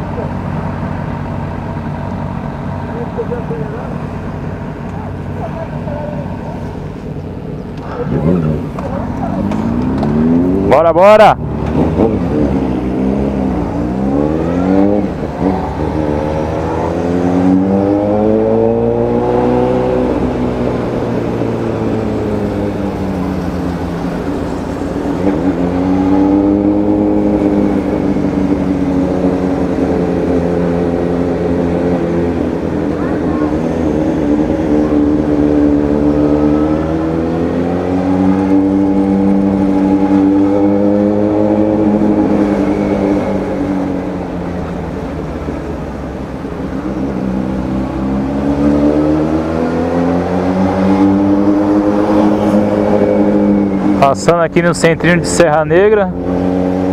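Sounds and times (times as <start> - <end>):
motorcycle engine revving: 2.6 - 56.9.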